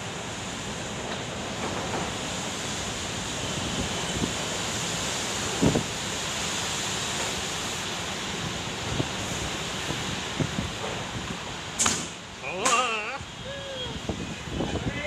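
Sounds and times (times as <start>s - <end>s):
gusting wind: 0.0s - 15.0s
heavy rain pouring: 0.0s - 15.0s.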